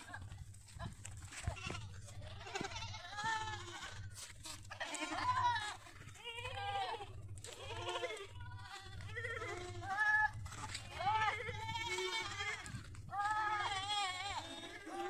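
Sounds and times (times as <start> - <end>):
goats bleating: 0.0 - 15.0.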